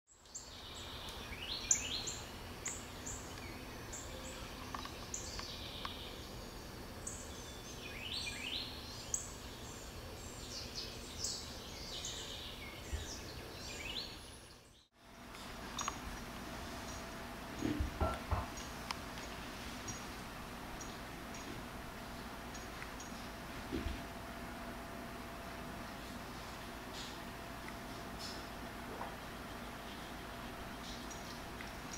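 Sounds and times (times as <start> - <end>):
birds chirping: 0.1 - 23.4, 24.2 - 31.9
low outdoor rumble: 0.6 - 31.9.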